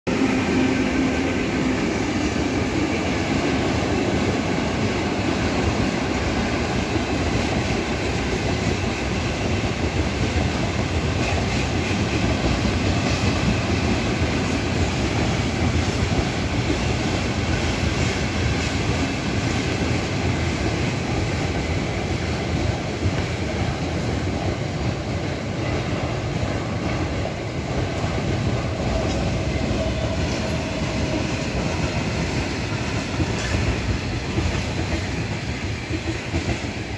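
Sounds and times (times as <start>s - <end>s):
freight train rumbling past: 0.1s - 36.9s.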